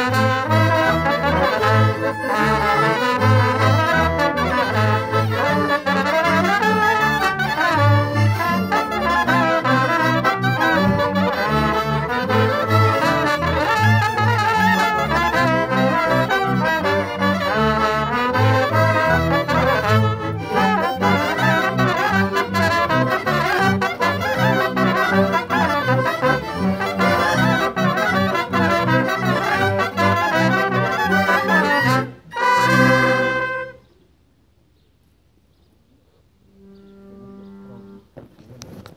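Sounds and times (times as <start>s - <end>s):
double bass pulsing: 0.0s - 33.8s
folk band playing: 0.0s - 33.9s, 36.5s - 38.1s.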